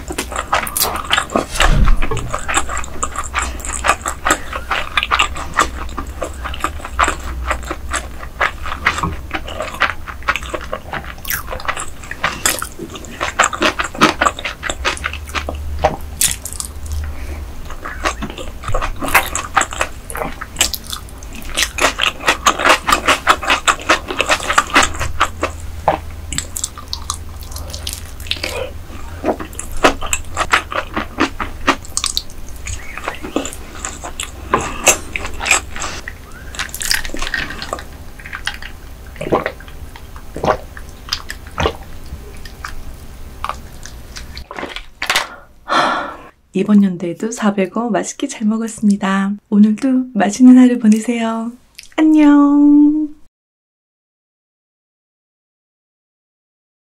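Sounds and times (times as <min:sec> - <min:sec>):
wet chewing and lip smacking: 0:00.0 - 0:45.2, 0:50.9 - 0:52.0.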